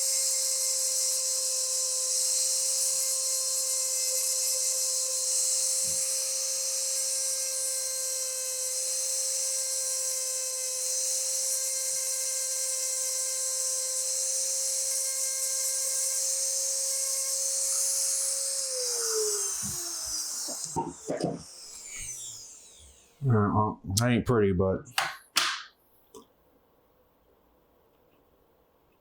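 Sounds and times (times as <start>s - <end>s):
rotary tool whining: 0.0s - 23.3s.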